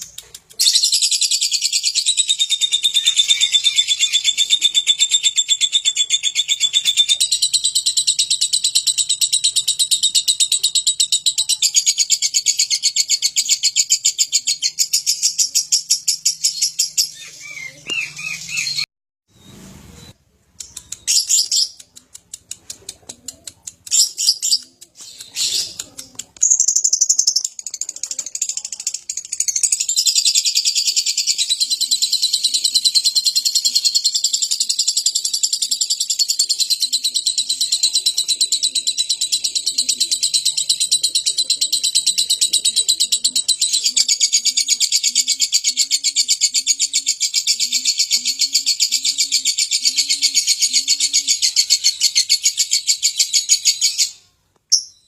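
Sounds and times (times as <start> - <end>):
lovebird chirping and trilling: 0.0 - 21.8, 23.8 - 55.0.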